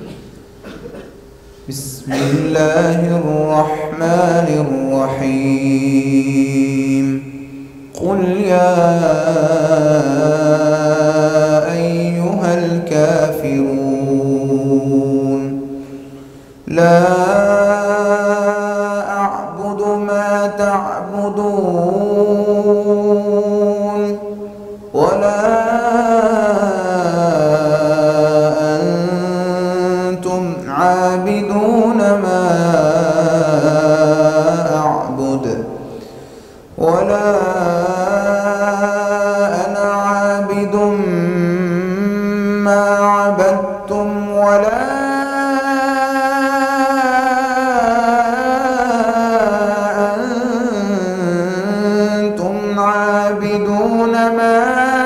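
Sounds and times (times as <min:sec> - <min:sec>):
man chanting melodic recitation: 0:01.7 - 0:55.0.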